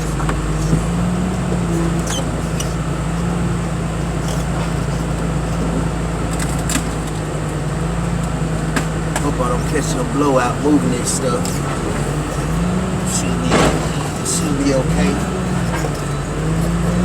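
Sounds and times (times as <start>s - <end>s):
machine engine droning: 0.0s - 17.0s.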